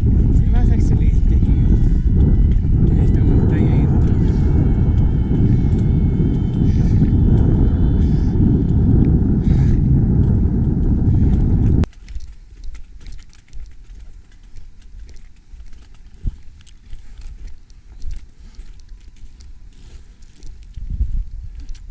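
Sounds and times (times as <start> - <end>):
quiet wind: 0.0 - 21.9
wind buffeting microphone: 0.0 - 21.9.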